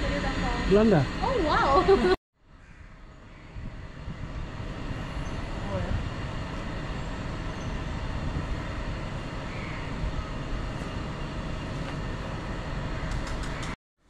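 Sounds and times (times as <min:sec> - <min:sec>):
urban street rumbling hum: 0:00.0 - 0:13.8.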